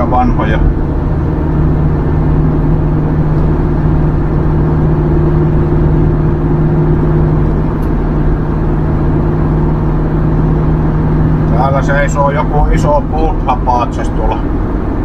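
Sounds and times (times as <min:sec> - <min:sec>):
minibus engine running: 0:00.0 - 0:15.0
road noise: 0:00.0 - 0:15.0.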